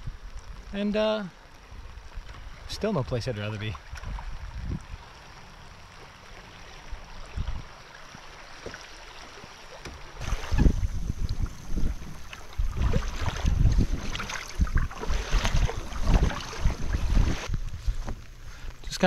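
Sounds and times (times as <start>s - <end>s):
river water rippling: 0.0s - 19.0s.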